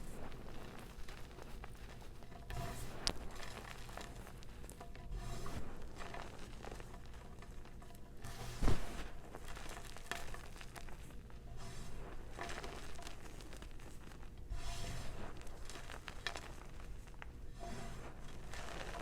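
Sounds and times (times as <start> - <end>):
chalk crumbling between fingers: 0.0 - 19.0.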